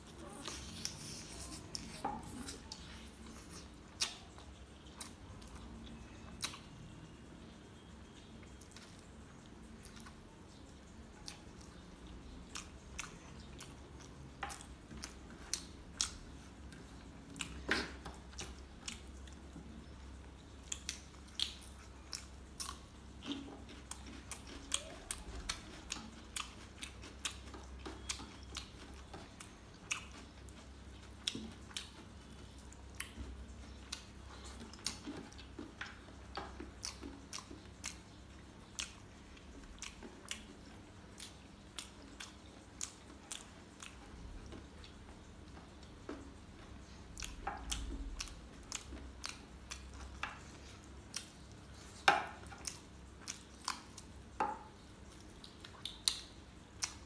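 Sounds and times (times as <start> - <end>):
wet chewing: 0.0 - 57.0.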